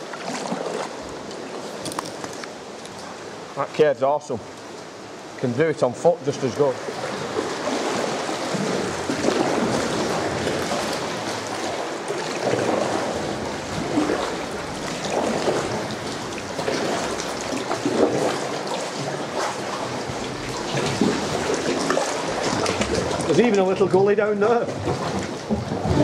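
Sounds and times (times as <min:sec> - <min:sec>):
water sloshing around kayak: 0:00.0 - 0:03.6, 0:04.4 - 0:26.0
paddle splash: 0:00.0 - 0:03.7, 0:04.3 - 0:26.0.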